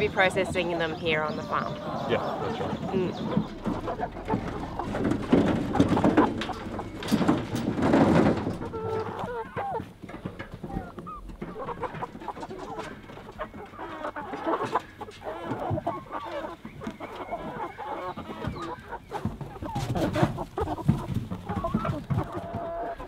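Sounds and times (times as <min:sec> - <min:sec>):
chickens clucking: 0:00.0 - 0:23.0
knocks and scuffling: 0:02.6 - 0:17.3, 0:18.2 - 0:23.0.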